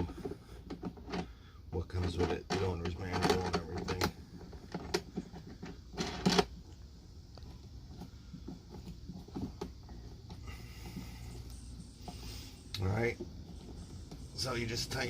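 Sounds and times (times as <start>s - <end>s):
faint clicks and rattles: 0.0s - 15.0s.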